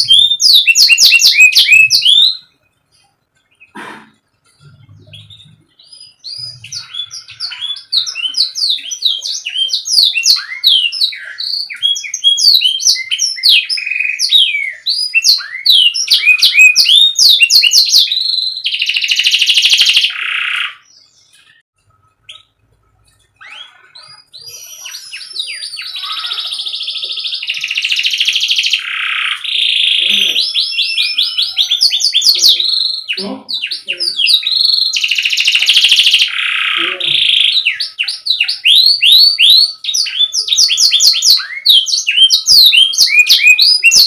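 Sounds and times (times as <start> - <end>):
canary singing chirps and trills: 0.0 - 44.0.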